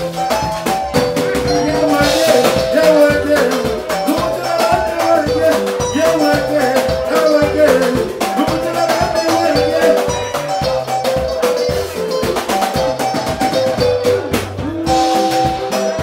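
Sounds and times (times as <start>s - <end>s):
band music: 0.0s - 16.0s
bass notes: 0.0s - 16.0s
steady drum beat: 0.0s - 16.0s.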